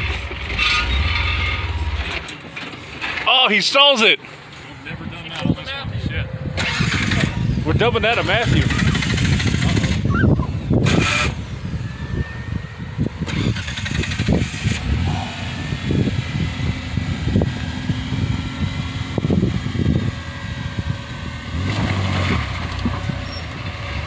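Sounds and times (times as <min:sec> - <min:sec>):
engine low rumble: 0:00.0 - 0:24.0.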